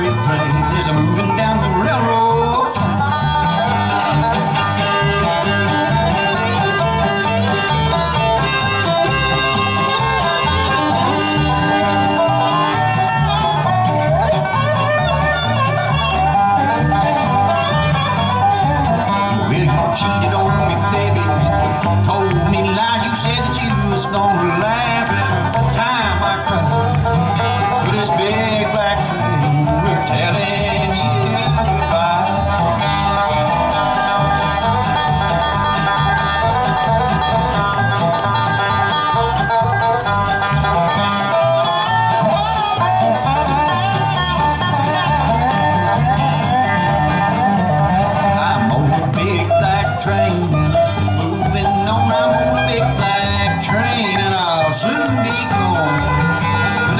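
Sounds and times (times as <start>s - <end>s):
bluegrass band playing live: 0.0s - 56.9s.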